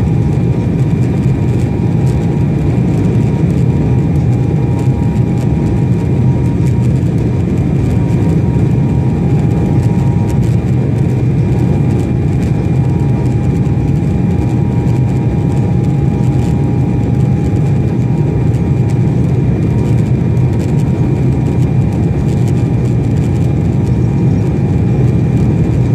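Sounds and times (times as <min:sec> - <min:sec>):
engine and airflow roar: 0:00.0 - 0:25.9
faint constant whine: 0:00.0 - 0:25.9.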